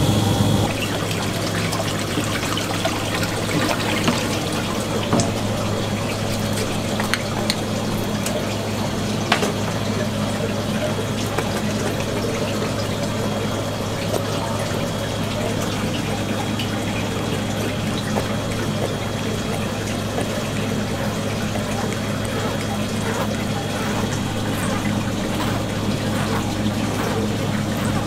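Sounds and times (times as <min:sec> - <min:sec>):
steady low hum: 0:00.0 - 0:28.0
water running and splashing: 0:00.0 - 0:28.0.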